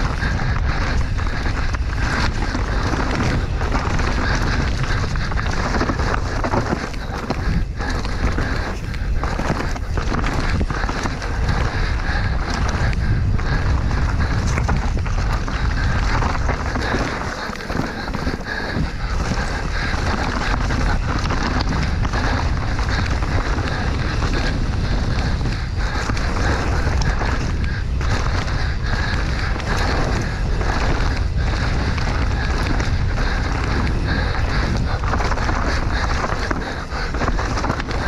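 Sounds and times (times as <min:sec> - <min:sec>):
bike tyre and trail noise: 0:00.0 - 0:38.0
wind buffeting microphone: 0:00.0 - 0:38.0.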